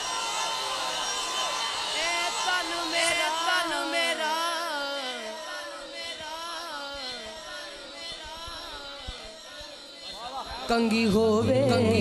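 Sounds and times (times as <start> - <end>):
man singing through a microphone: 2.0 - 12.0.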